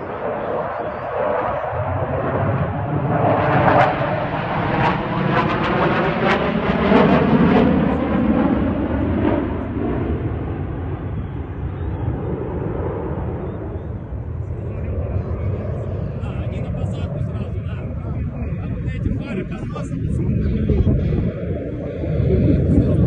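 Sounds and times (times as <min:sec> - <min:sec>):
fighter jet roar: 0:00.0 - 0:23.0.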